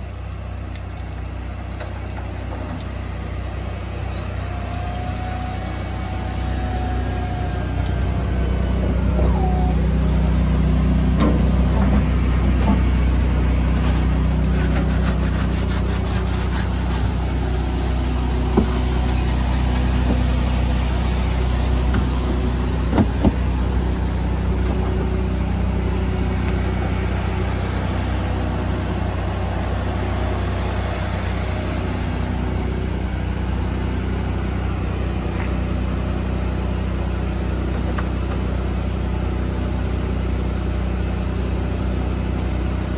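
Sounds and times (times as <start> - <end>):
pressure washer engine humming: 0.0 - 42.9.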